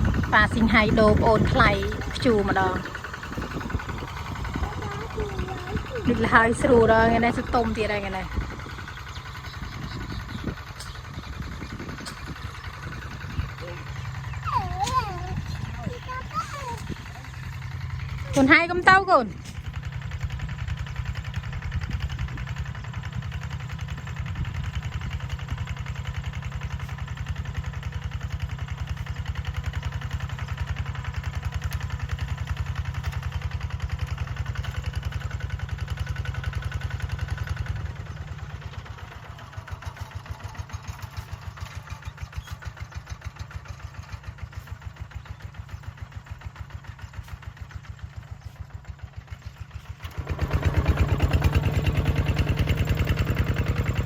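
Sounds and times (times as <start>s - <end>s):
small engine pulsing: 0.0s - 54.0s.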